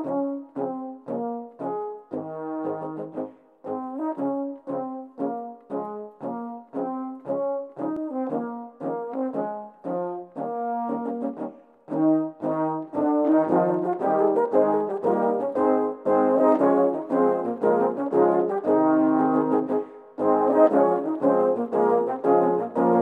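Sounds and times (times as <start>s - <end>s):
brass ensemble playing a march: 0.0s - 23.0s.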